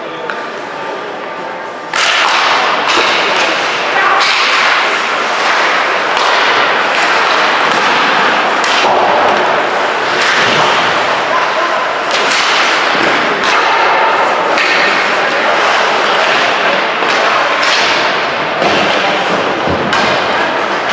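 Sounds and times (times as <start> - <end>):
hockey sticks and puck cracking: 1.2 - 20.9.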